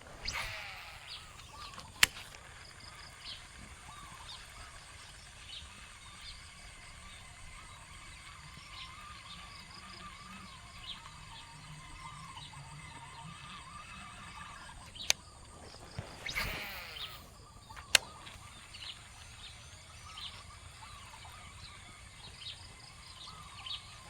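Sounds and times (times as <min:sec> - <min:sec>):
birds chirping: 0:00.0 - 0:24.0
sharp click: 0:00.0 - 0:24.0.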